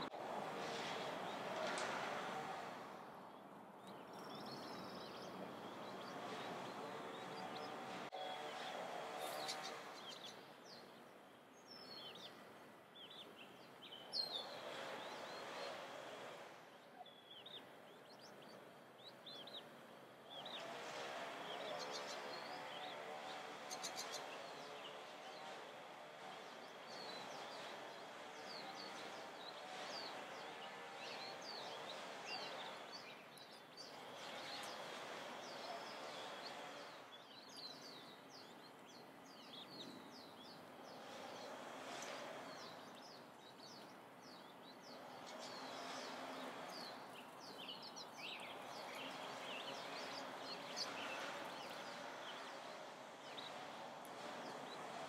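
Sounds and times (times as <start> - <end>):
outdoor background hiss: 0.0 - 55.0.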